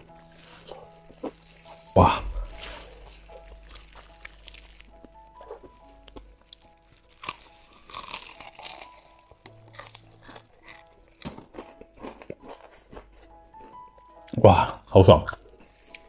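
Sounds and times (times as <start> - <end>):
crunchy chewing of fried chicken: 0.0 - 16.0
soft background music: 0.0 - 16.0.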